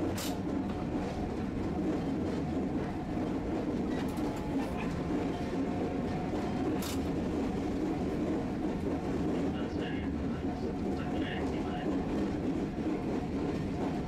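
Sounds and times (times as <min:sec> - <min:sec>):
streetcar wheels and motor rumble: 0:00.0 - 0:14.0.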